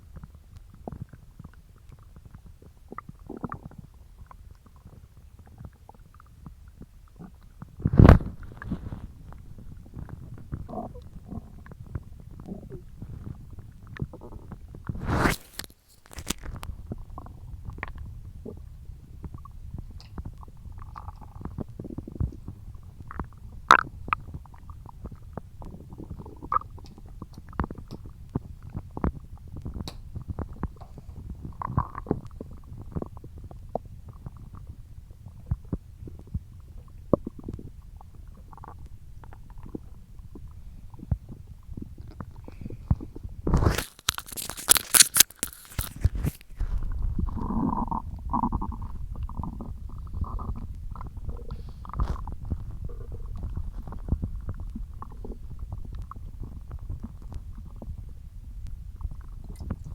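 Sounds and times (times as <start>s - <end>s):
stomach growling: 0.0s - 59.9s.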